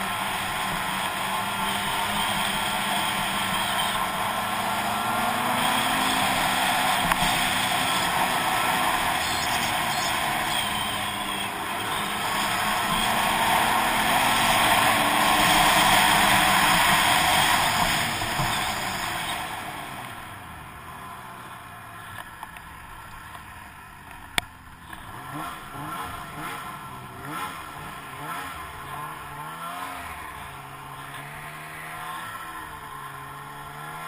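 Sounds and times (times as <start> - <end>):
snowmobile engine and track: 0.0 - 34.0.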